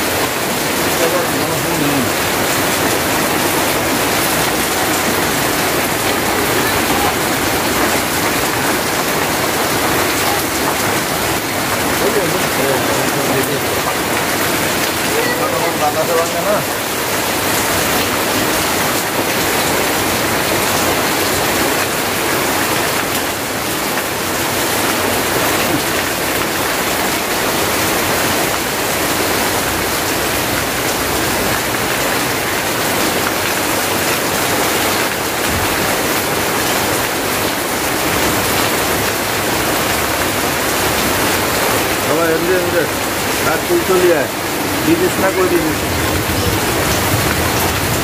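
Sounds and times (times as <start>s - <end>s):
heavy rain on trees: 0.0s - 48.0s
water pouring off roof edge: 0.0s - 48.0s.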